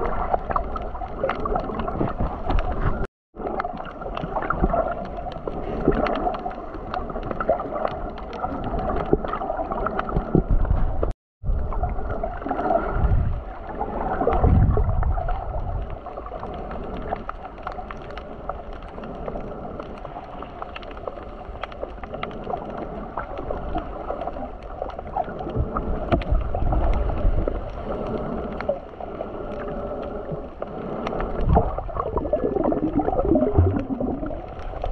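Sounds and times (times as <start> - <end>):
muffled underwater sloshing: 0.0 - 34.9.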